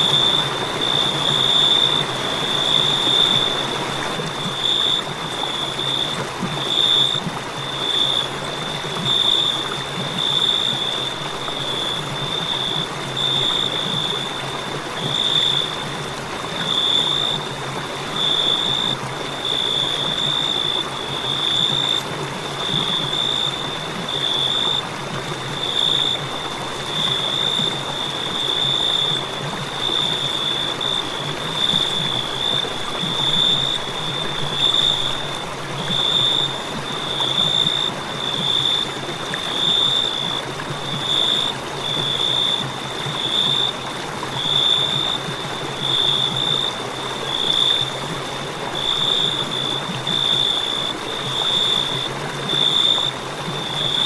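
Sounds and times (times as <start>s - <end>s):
cricket trilling: 0.0s - 54.0s.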